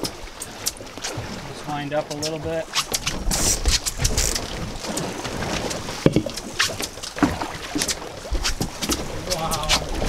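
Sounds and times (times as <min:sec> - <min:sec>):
water sloshing against boat: 0:00.0 - 0:10.0.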